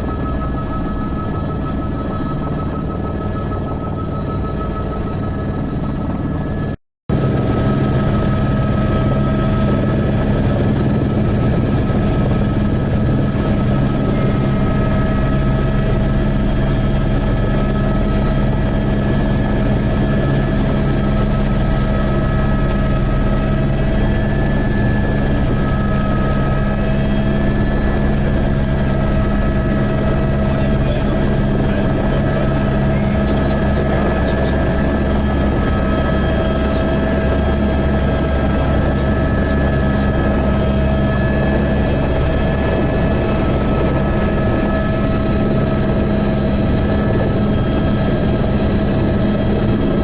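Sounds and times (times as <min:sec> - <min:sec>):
helicopter rotor and engine drone: 0:00.0 - 0:50.0.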